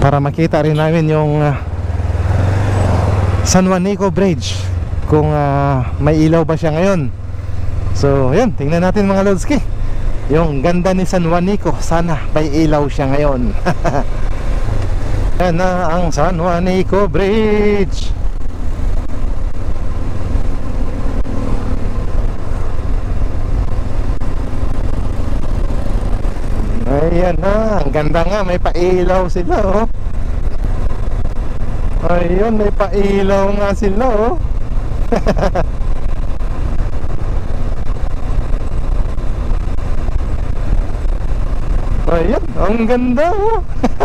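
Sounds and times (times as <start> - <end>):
motorcycle engine and road rumble: 0.0 - 44.0
wind rushing on microphone: 1.1 - 44.0.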